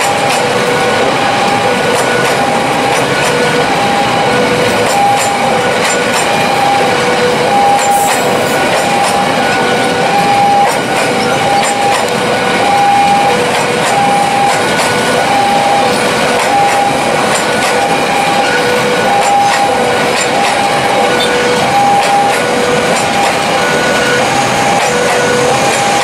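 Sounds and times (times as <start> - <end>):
level crossing alarm: 0.0 - 26.0
train wheels rumbling on rails: 0.0 - 26.0.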